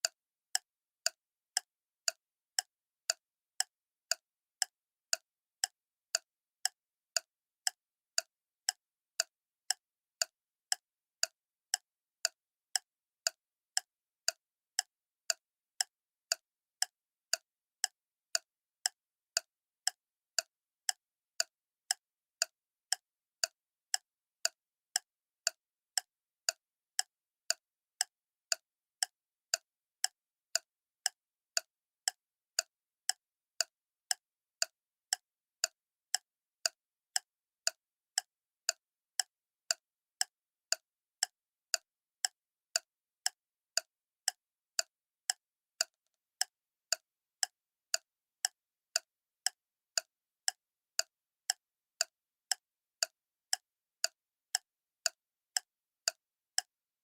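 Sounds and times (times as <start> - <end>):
clock ticking: 0.0 - 56.7.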